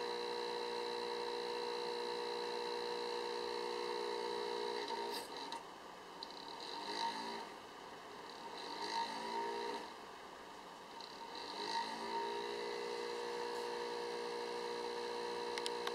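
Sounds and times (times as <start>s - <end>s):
cooling fan droning buzz: 0.0s - 15.9s.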